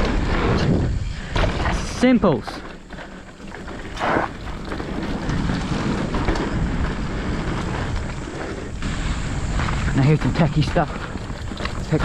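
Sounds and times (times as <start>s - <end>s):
bike tyres rolling over dirt: 0.0s - 12.0s
wind on the microphone: 0.0s - 12.0s.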